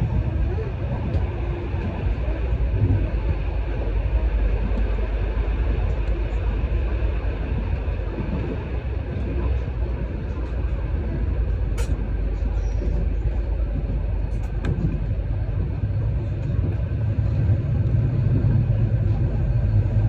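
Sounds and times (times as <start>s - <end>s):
vehicle rumble in motion: 0.0s - 20.0s.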